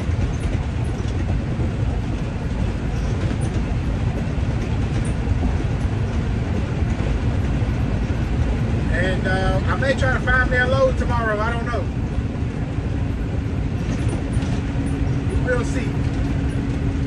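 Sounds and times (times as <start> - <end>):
truck cab rumble: 0.0 - 17.0.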